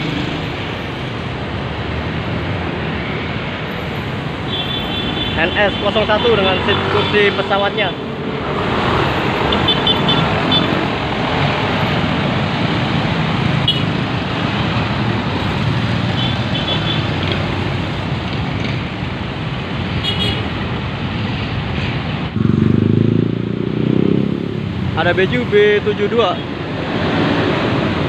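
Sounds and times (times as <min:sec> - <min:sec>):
cars and motorcycles running: 0:00.0 - 0:28.0.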